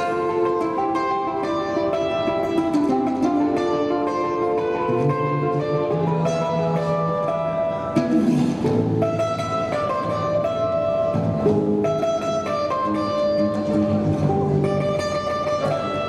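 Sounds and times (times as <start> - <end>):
balalaika strumming melody: 0.0 - 16.0
plucked bass balalaika: 0.0 - 16.0.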